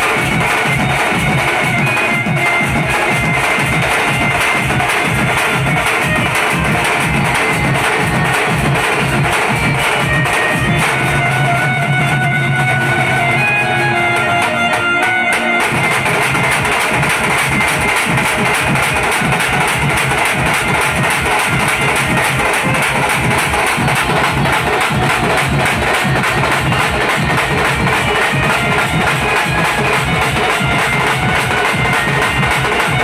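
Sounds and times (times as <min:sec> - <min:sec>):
drums beaten with sticks: 0:00.0 - 0:33.0
sustained melody line: 0:00.1 - 0:33.0.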